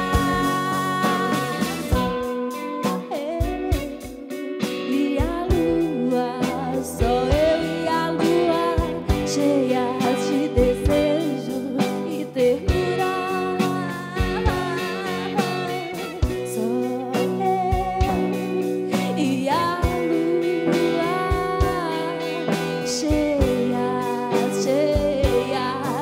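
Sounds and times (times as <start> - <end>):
live band music with guitar: 0.0 - 26.0.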